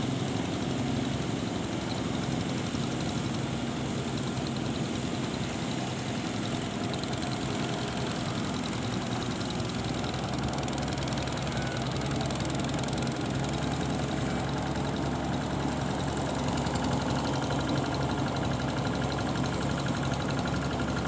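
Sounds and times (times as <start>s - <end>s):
engine humming steadily: 0.0s - 21.0s.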